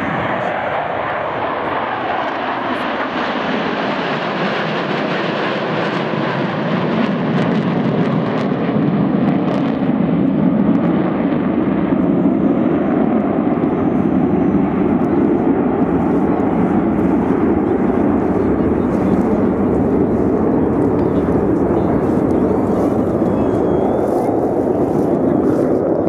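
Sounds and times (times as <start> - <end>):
jet fighters flying past: 0.0 - 26.0.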